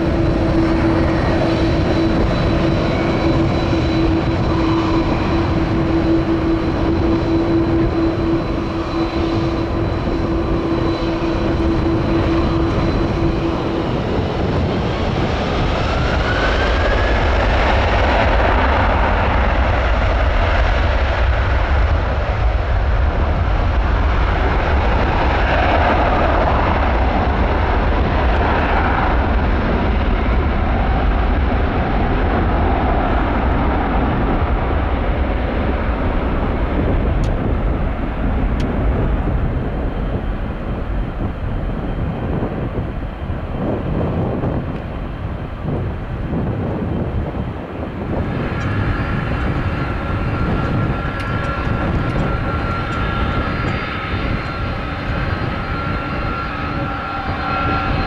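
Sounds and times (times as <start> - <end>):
deep engine rumble: 0.0 - 58.0
jet engines at take-off power: 0.0 - 58.0.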